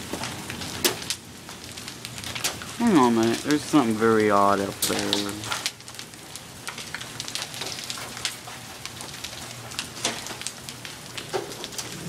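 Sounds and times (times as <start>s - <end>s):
hail and rain falling: 0.0s - 12.0s
hailstones clicking: 0.0s - 12.0s.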